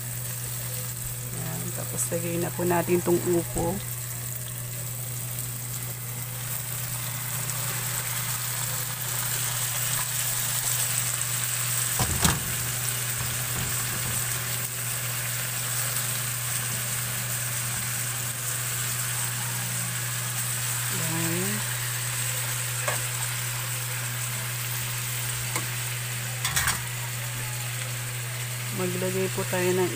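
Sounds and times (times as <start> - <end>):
vegetables sizzling in a pan: 0.0 - 29.9.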